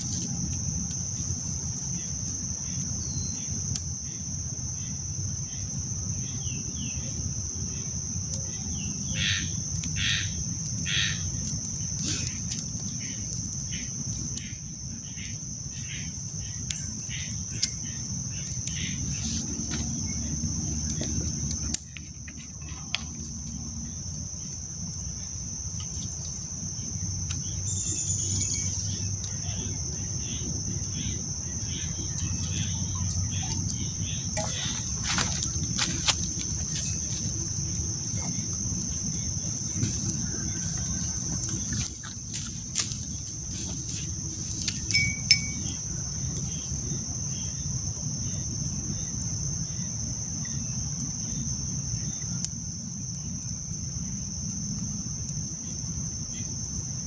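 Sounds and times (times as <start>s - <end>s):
high-pitched insect trill: 0.0s - 57.0s.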